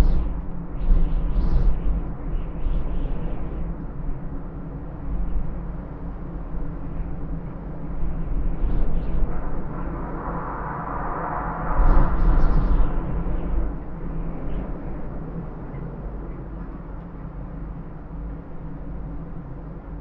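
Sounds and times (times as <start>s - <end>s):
wind gusting with rumble: 0.0s - 20.0s.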